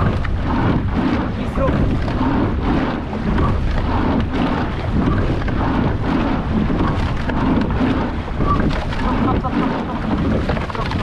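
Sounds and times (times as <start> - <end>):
oars in water: 0.0 - 11.0
water rushing along hull: 0.0 - 11.0
wind buffeting microphone: 0.0 - 11.0.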